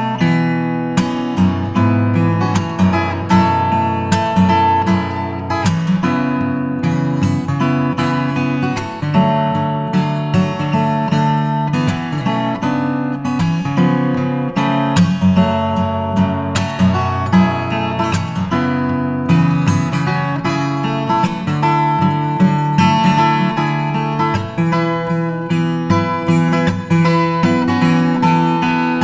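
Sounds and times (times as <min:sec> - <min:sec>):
acoustic guitar strumming and picking: 0:00.0 - 0:29.0.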